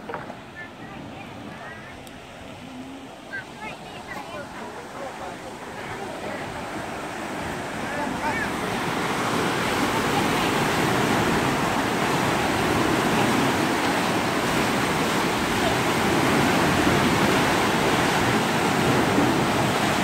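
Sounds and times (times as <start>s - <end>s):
turbulent water rushing: 0.0s - 20.0s.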